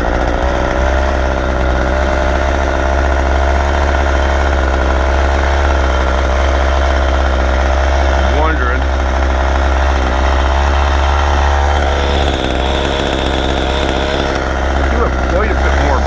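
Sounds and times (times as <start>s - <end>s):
steady whine: 0.0s - 16.0s
truck engine running: 0.0s - 16.0s.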